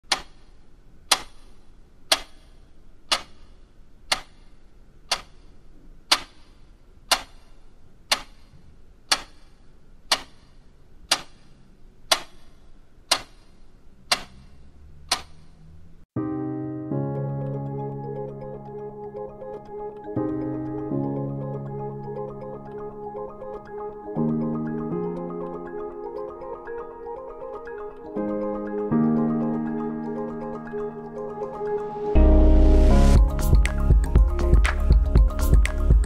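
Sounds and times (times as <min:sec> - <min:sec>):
clock ticking: 0:00.0 - 0:15.5, 0:17.4 - 0:31.8, 0:33.2 - 0:36.0.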